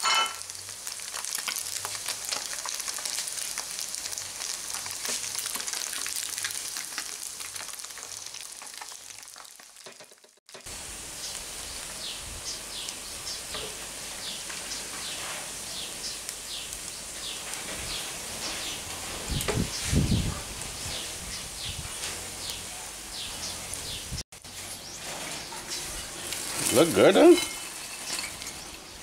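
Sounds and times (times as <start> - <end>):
deep-frying crackling sizzle: 0.0 - 29.0.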